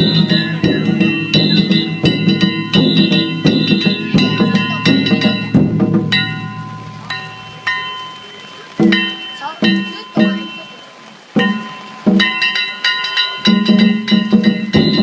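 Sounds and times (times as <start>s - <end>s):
hand gongs ringing: 0.0s - 15.0s
taiko drums: 0.0s - 15.0s.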